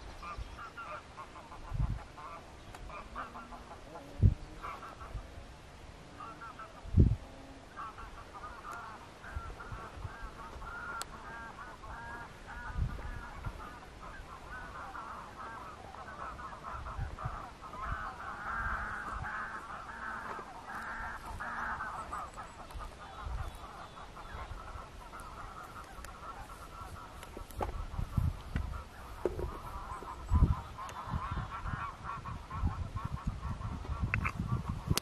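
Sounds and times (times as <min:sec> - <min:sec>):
flock of geese honking: 0:00.1 - 0:35.0.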